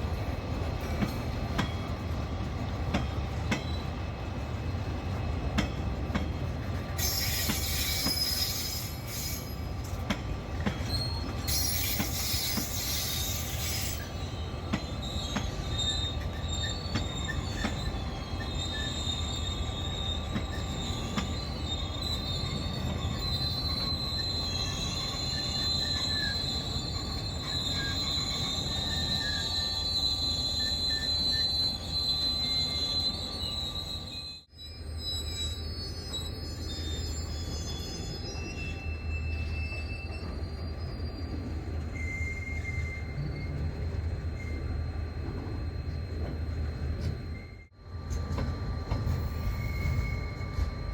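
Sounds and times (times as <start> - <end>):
train rumbling: 0.0 - 50.9
high wheel squeal: 6.1 - 50.9.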